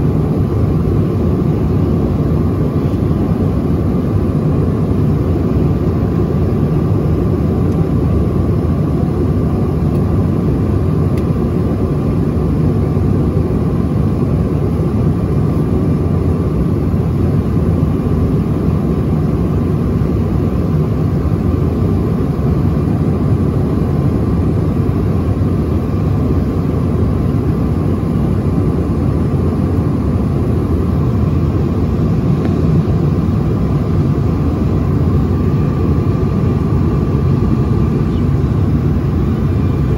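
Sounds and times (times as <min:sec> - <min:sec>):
faint steady whine: 0:00.0 - 0:39.9
jet cabin roar: 0:00.0 - 0:39.9.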